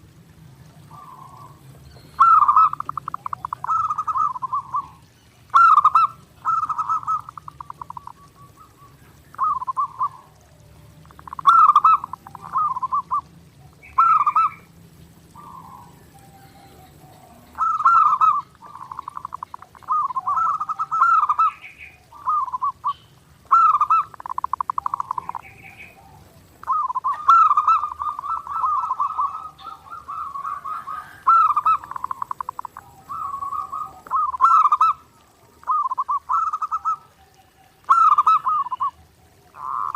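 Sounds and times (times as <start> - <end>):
dove cooing: 0.6 - 39.9.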